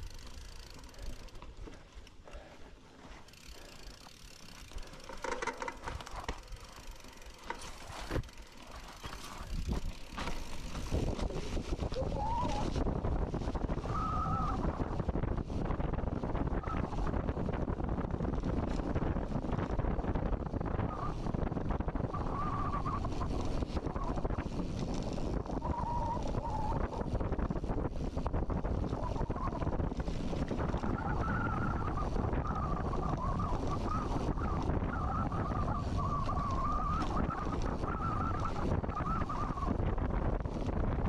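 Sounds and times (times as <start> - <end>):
wind buffeting microphone: 4.5 - 41.0.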